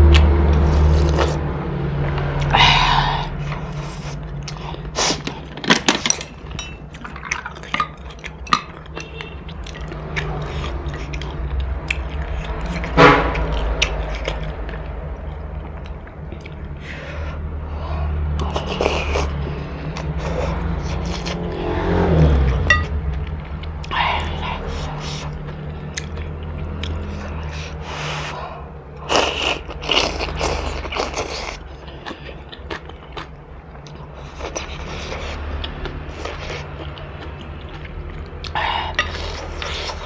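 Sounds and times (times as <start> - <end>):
slurping and chewing noodles: 0.0 - 1.5, 2.2 - 17.4, 18.3 - 22.7, 23.6 - 40.0.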